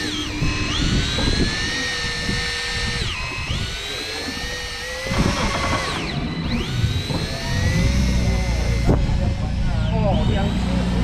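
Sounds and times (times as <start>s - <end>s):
electric fishing reel motor whining: 0.0s - 11.0s.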